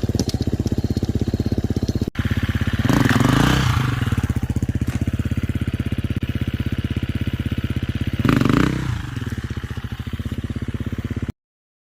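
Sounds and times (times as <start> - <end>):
dirt bike engine idling: 0.0 - 11.3.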